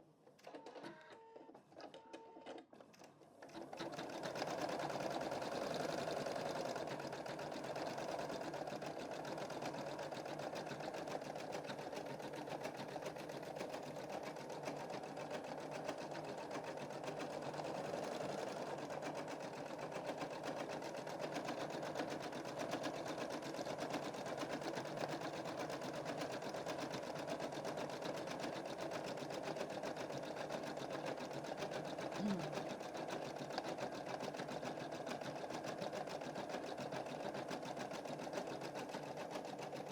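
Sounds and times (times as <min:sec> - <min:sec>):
embroidery machine stitching: 0:01.8 - 0:39.9.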